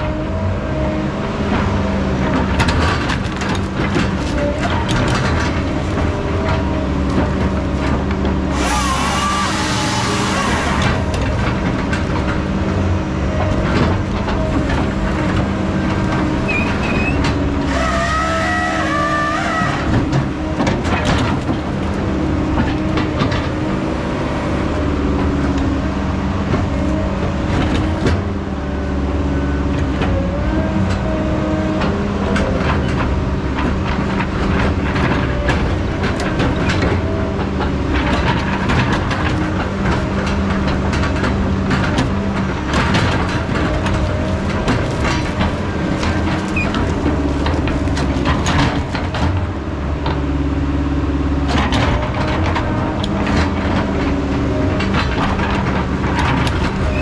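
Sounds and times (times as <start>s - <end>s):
diesel machinery engine: 0.0s - 57.0s
knocks and clanks: 1.5s - 23.8s, 31.7s - 50.4s, 51.4s - 57.0s.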